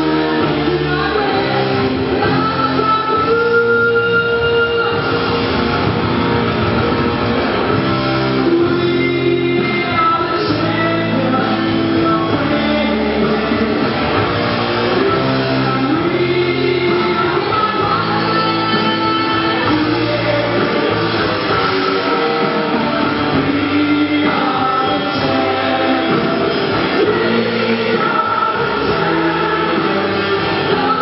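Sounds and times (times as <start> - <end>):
song with singing over instruments: 0.0 - 31.0.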